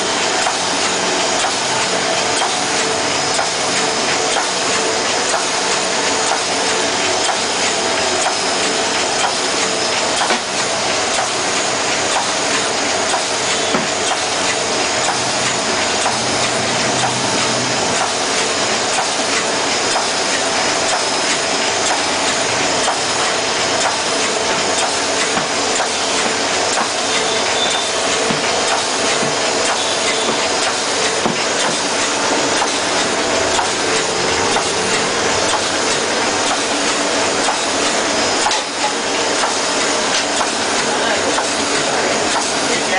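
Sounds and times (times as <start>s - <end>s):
envelope machine clattering and whirring: 0.0s - 42.9s.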